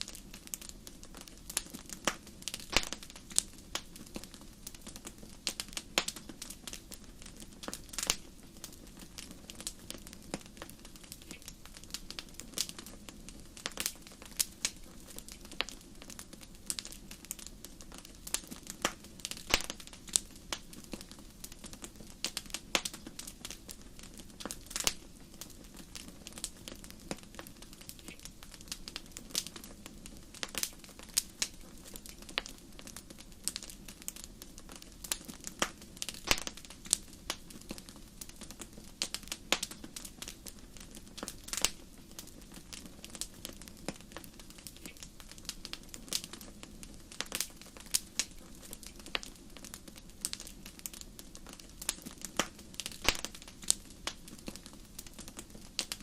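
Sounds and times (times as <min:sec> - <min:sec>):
fire pops and snaps: 0:00.0 - 0:56.0
flames low rumble: 0:00.0 - 0:56.0.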